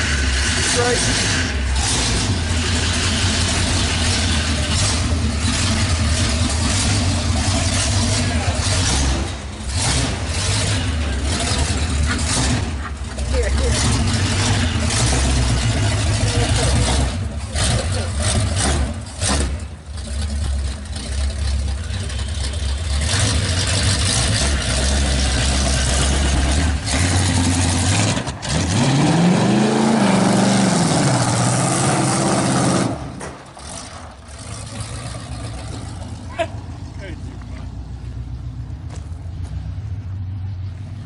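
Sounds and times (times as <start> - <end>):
race car engine running: 0.0 - 41.0.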